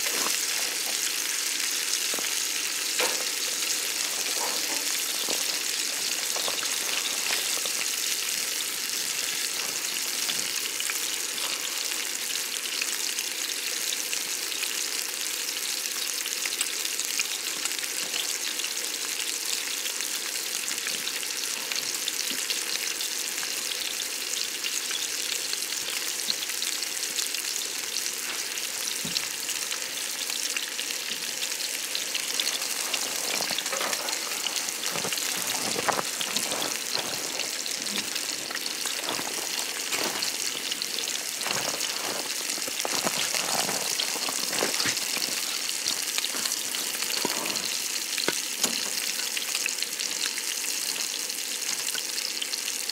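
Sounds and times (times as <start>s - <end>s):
wood fire crackling and hissing: 0.0s - 52.9s.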